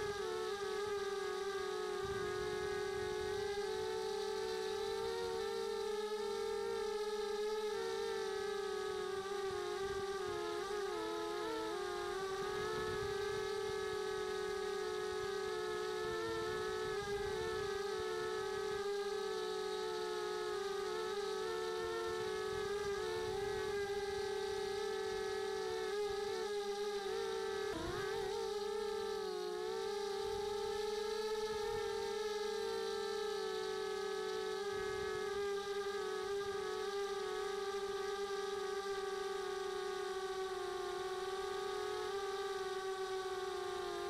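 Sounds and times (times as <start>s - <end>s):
drone motors humming: 0.0s - 44.0s.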